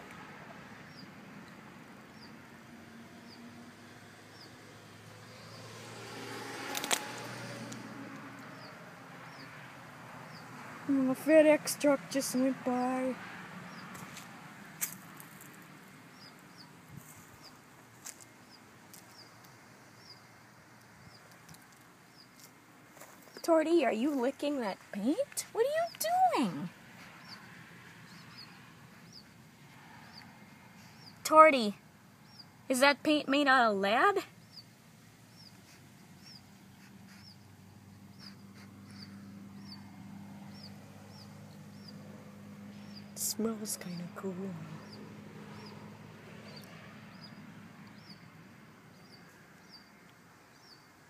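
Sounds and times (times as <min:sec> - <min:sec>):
songbird chirping: 0:00.0 - 0:51.0.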